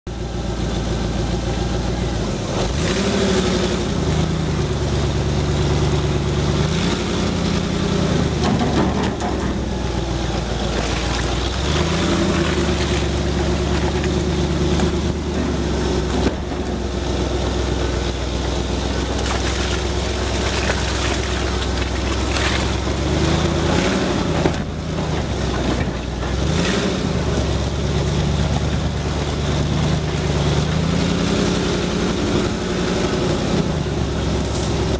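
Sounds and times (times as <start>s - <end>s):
off-road vehicle engine running: 0.1s - 34.9s.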